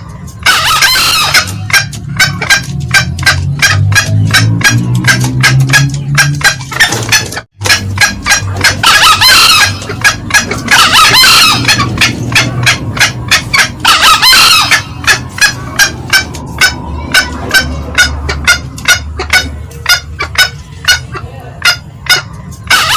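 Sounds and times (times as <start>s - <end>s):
junglefowl cackling clucks: 0.0s - 22.9s
junglefowl shrill crowing: 0.0s - 22.9s.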